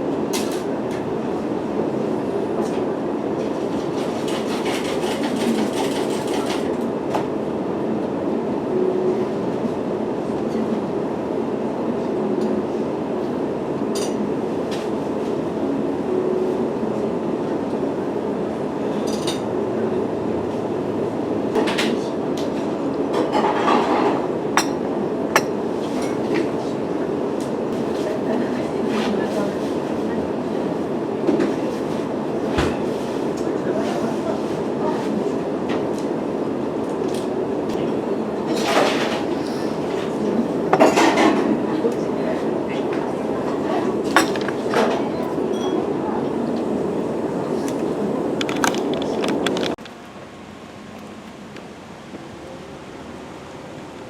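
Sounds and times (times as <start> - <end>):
train rumble: 0.0 - 50.3.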